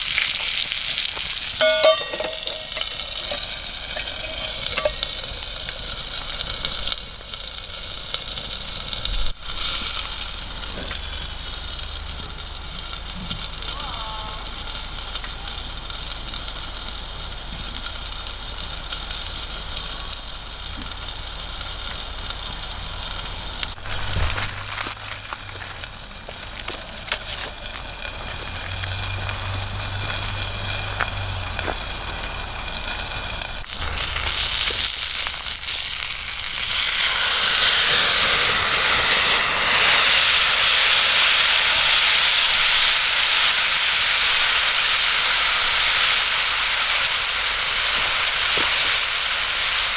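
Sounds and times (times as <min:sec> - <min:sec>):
campfire crackling: 0:00.0 - 0:49.9
meat sizzling in a skillet: 0:00.0 - 0:49.9.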